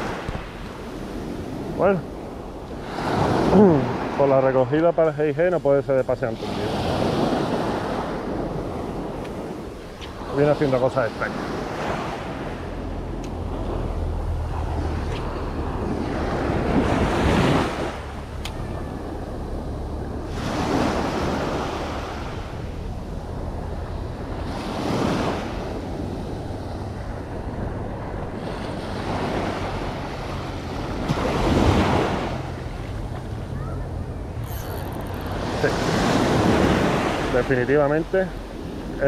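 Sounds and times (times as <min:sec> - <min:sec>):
sea waves breaking on shore: 0:00.0 - 0:39.0
wind rumble on microphone: 0:05.7 - 0:39.0.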